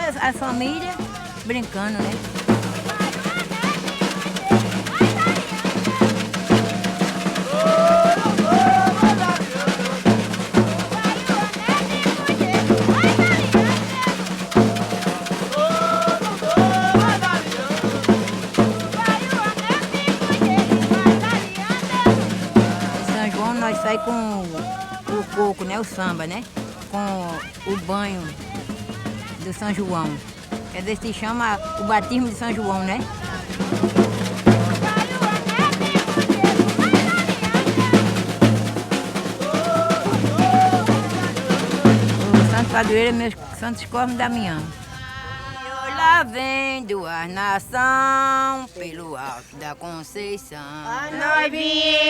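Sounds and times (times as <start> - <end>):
voices singing long notes: 0.0 - 46.9, 50.7 - 52.0
percussion ensemble drumming: 0.0 - 49.6, 50.9 - 52.0.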